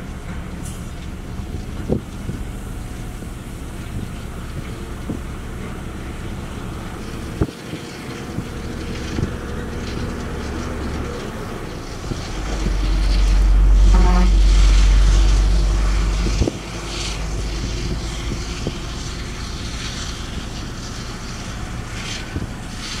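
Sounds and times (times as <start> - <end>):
bulldozer engine rumble: 0.0 - 23.0
diesel truck engine running: 0.0 - 23.0.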